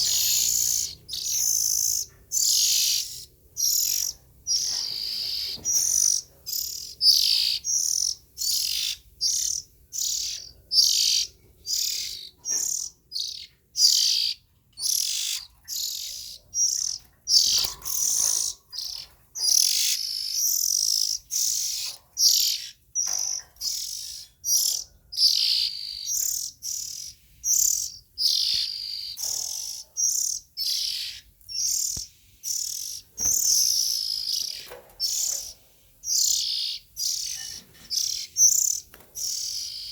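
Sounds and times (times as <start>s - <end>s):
bird calling with scratchy high calls: 0.0s - 39.9s.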